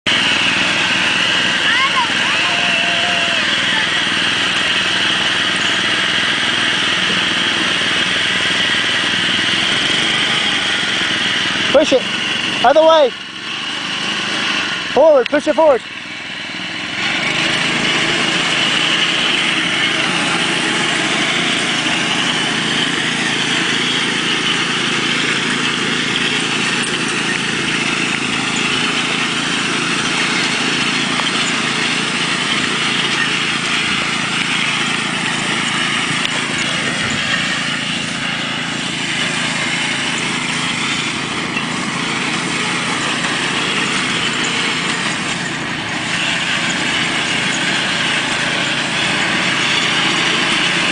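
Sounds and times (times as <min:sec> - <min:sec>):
small train engine drone: 0:00.0 - 0:50.9.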